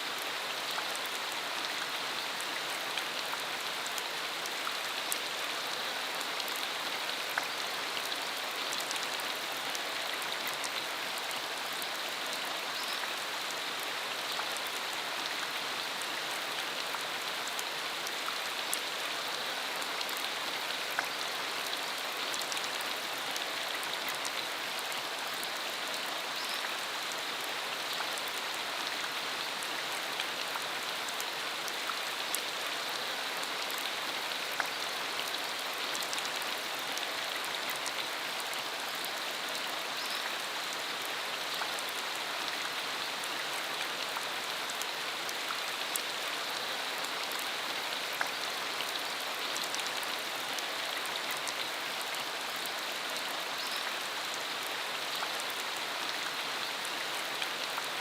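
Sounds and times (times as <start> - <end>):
rain falling on road: 0.0 - 58.0.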